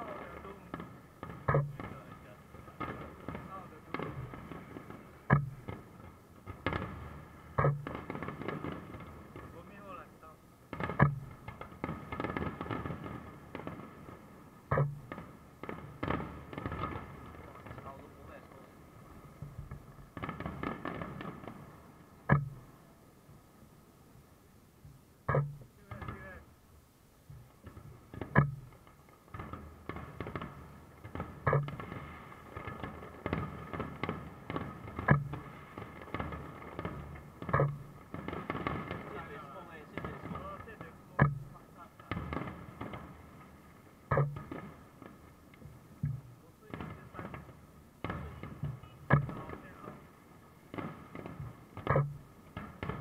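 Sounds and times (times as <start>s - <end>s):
small firework pops: 0.0s - 18.8s, 19.4s - 21.6s, 27.3s - 50.1s, 50.7s - 53.0s
firework shells bursting: 0.0s - 22.8s, 27.3s - 53.0s.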